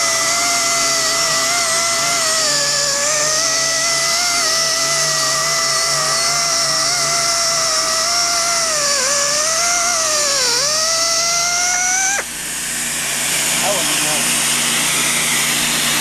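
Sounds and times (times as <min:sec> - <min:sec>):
pneumatic die grinder whine: 0:00.0 - 0:16.0.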